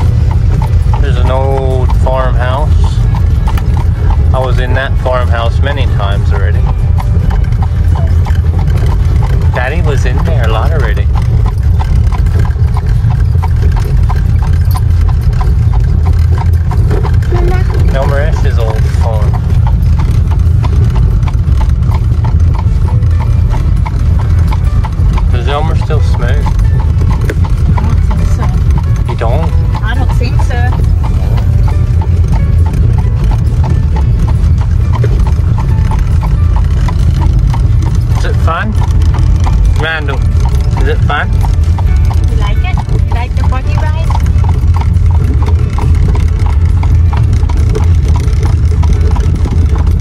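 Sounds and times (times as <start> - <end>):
horse hooves clip-clopping: 0.0 - 50.0
low rumble: 0.0 - 50.0.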